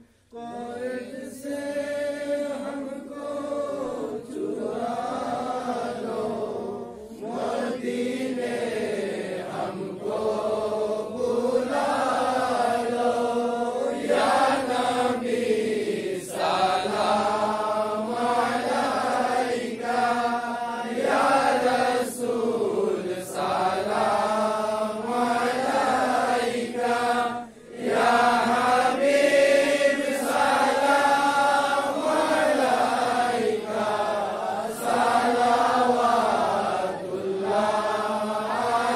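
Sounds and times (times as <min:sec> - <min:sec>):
voices chanting together: 0:00.0 - 0:38.9.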